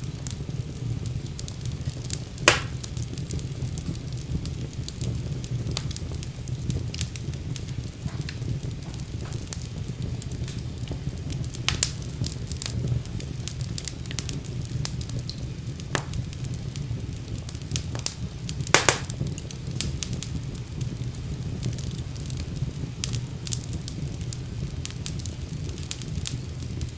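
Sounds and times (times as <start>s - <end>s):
fire crackling and popping: 0.0s - 26.9s
fire flames rumbling: 0.0s - 26.9s.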